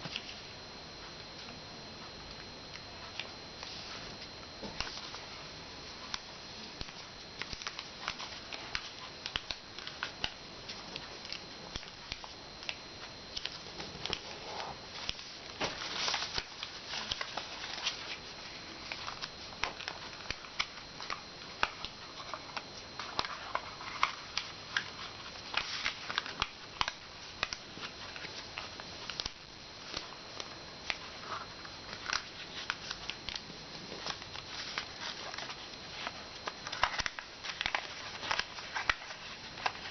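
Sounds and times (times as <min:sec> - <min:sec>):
paper folding and rustling: 0:03.0 - 0:39.9.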